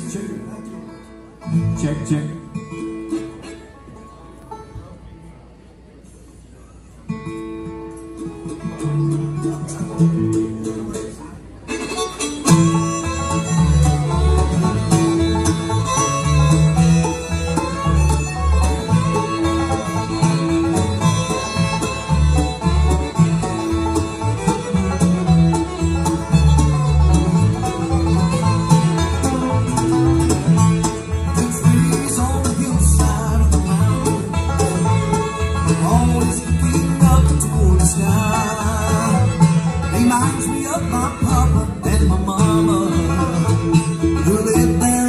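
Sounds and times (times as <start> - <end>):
upright bass plucking: 0.0 - 3.7, 8.1 - 45.0
bluegrass band playing: 0.0 - 45.0.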